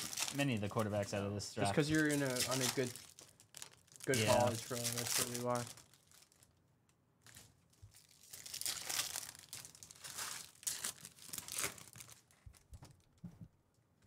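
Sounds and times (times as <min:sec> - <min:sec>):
foil wrapper crinkling and tearing: 0:00.0 - 0:01.0, 0:01.8 - 0:06.6, 0:07.2 - 0:13.1.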